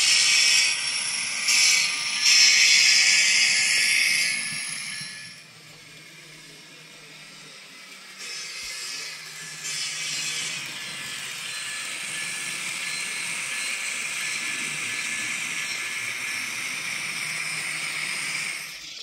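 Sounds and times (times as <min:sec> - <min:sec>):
model train low hum: 0:00.0 - 0:19.0.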